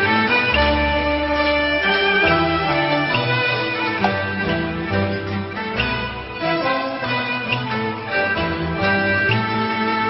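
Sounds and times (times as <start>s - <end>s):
bowed strings melody: 0.0s - 10.0s
plucked strings: 0.0s - 10.0s.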